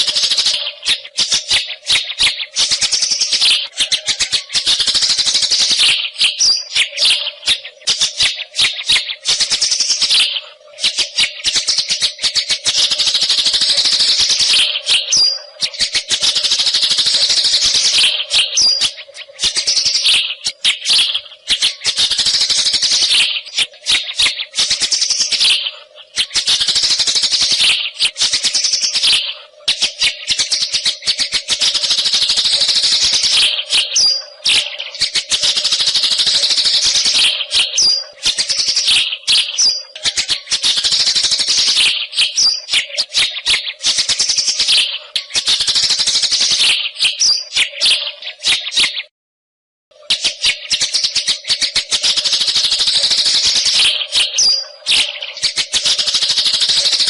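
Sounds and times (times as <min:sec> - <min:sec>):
bird singing: 0:00.0 - 0:49.1, 0:50.0 - 0:57.0.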